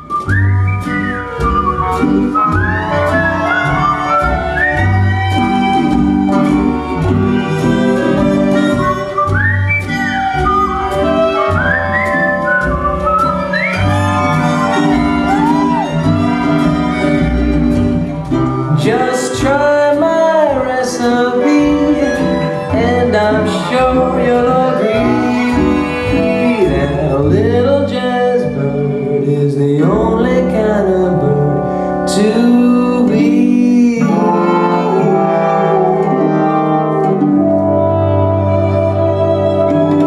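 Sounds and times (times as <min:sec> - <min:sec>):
jazz band music: 0:00.0 - 0:40.0.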